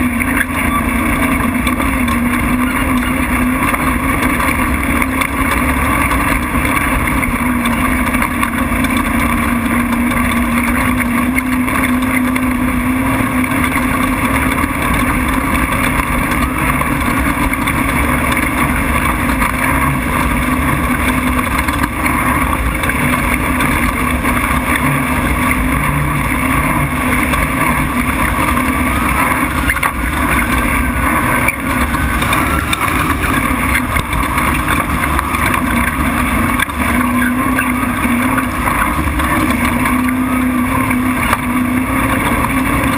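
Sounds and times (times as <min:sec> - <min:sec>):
road noise: 0:00.0 - 0:42.9
truck engine running hard: 0:00.0 - 0:42.9.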